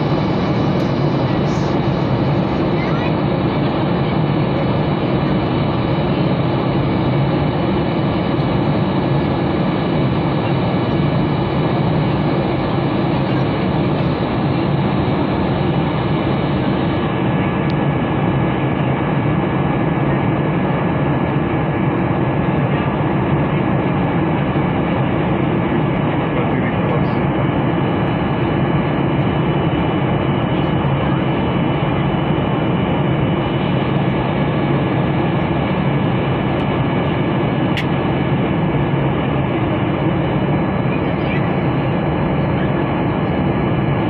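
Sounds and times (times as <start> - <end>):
faint steady whines: 0.0 - 44.0
jet engine roar: 0.0 - 44.0.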